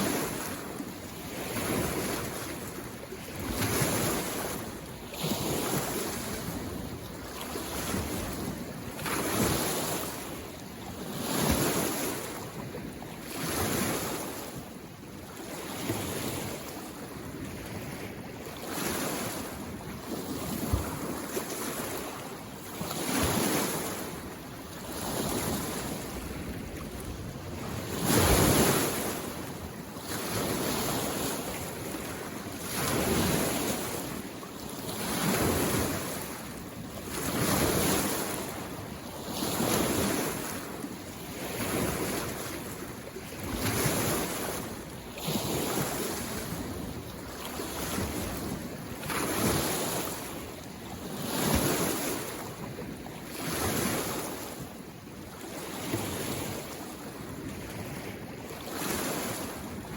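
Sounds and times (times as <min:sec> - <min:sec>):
small waves washing in: 0:00.0 - 0:59.9.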